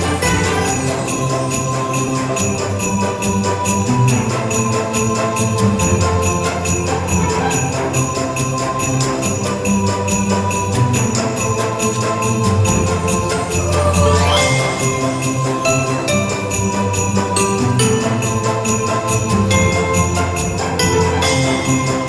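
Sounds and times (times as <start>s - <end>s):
instrumental christmas music: 0.0s - 22.0s
jingle bells shaken: 0.0s - 22.0s.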